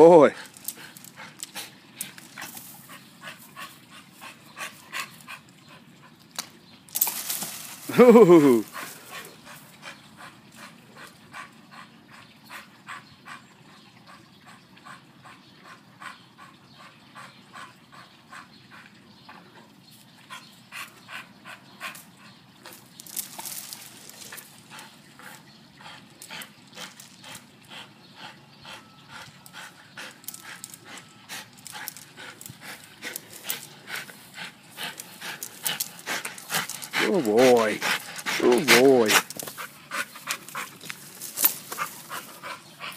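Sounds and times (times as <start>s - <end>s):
dog panting: 0.2s - 6.2s, 8.4s - 19.0s, 20.3s - 22.4s, 24.2s - 42.9s.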